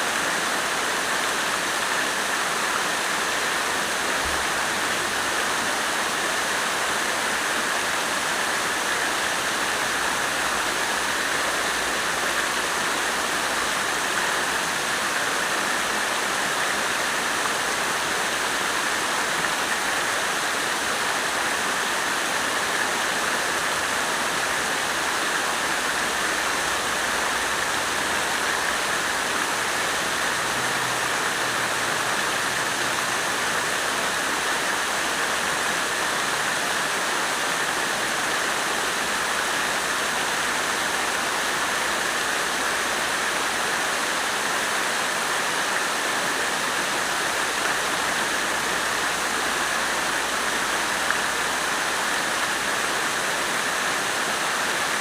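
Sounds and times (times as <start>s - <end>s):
water fountain splashing: 0.0s - 55.0s.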